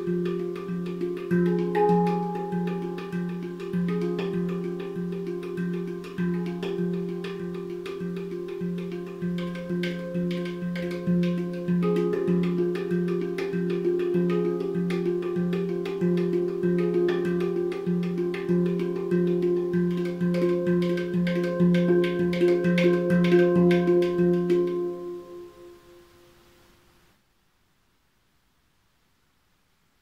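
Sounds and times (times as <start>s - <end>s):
handpan playing: 0.0s - 26.3s.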